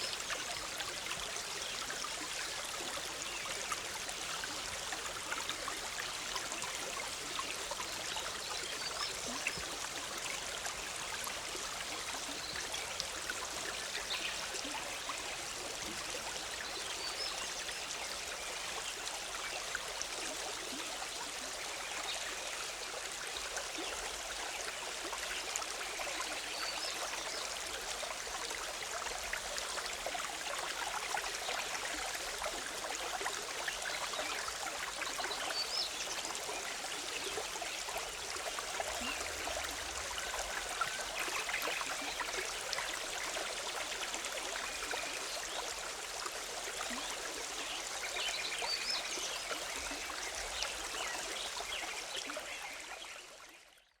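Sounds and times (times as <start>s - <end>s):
river trickling over rocks: 0.0s - 53.9s.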